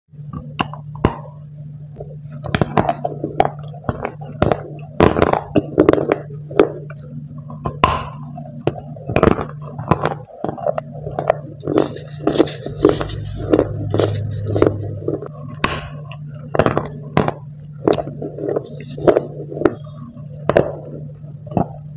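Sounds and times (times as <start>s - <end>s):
steady low hum: 0.1s - 21.9s
chewing crunchy clay: 0.3s - 21.9s.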